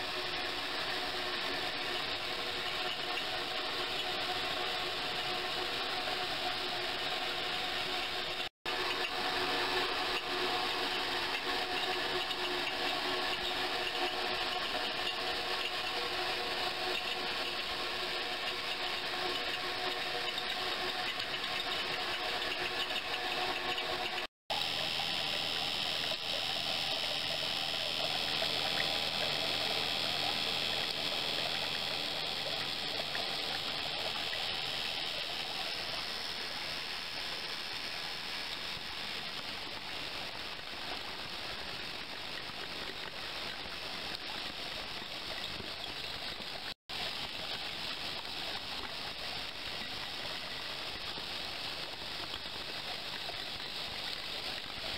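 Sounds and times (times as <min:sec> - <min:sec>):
mechanical hum: 0:00.0 - 0:54.9.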